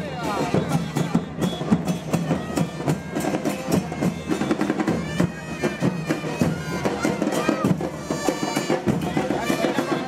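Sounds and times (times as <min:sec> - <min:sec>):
percussion-led carnival music: 0:00.0 - 0:10.0.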